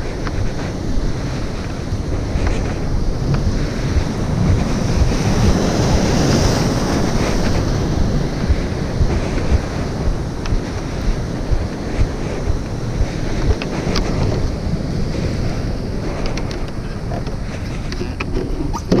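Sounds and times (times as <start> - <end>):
surf wash: 0.0 - 19.0
wind buffeting microphone: 0.0 - 19.0.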